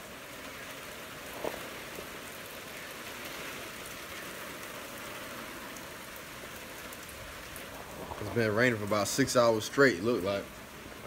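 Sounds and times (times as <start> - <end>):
rain on a roof: 0.0 - 11.0.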